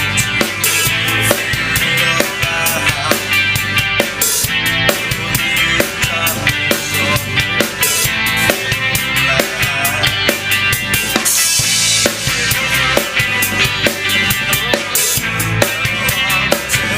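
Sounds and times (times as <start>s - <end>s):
drum kick and snare beat: 0.0s - 16.9s
rock band playing: 0.0s - 16.9s.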